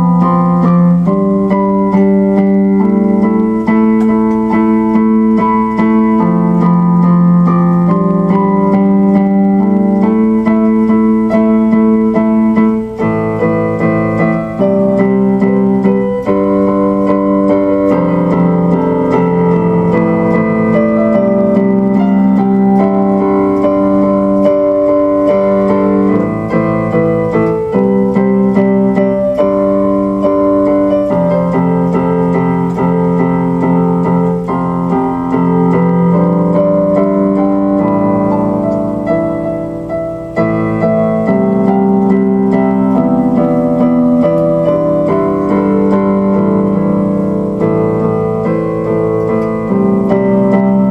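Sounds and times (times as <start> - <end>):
electric piano chords: 0.0 - 50.9.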